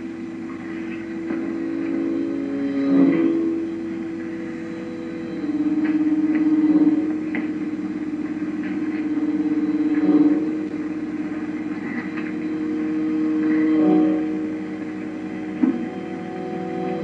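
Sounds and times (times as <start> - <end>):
low held chords music: 0.0 - 17.0.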